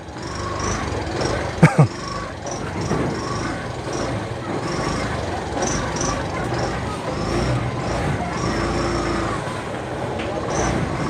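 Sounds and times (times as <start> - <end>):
motorcycle engine: 0.0 - 11.0
road noise: 0.0 - 11.0.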